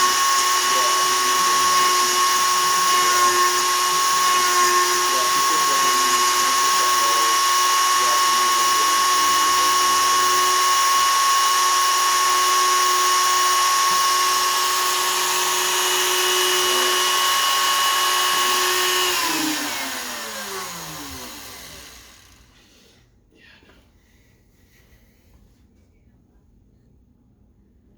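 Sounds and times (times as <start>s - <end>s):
router spindle whining: 0.0s - 22.9s.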